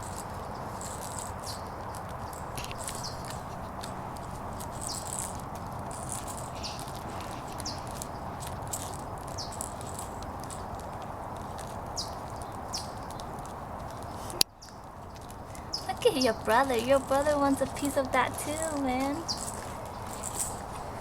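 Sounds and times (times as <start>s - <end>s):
background hiss: 0.0s - 21.0s
puppies scratching and clicking: 0.0s - 21.0s.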